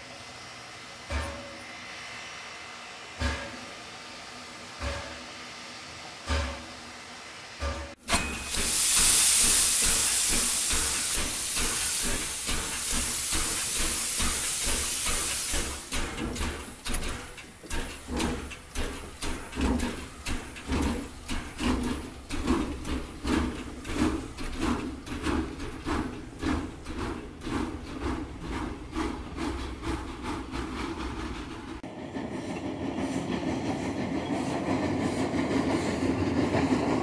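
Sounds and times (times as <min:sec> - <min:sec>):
steam hissing: 0:00.0 - 0:31.8
steam locomotive exhaust beats: 0:00.0 - 0:37.0.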